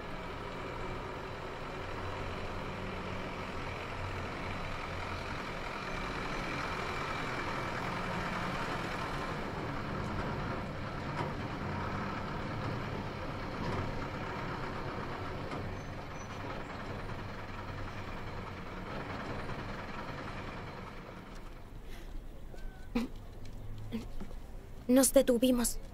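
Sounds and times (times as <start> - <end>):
road noise: 0.0 - 25.9
truck engine drone: 0.0 - 25.9.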